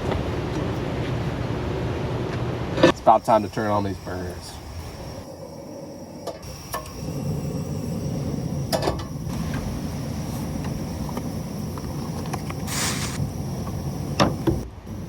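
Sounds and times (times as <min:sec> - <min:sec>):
gas flame roar: 0:00.0 - 0:15.0.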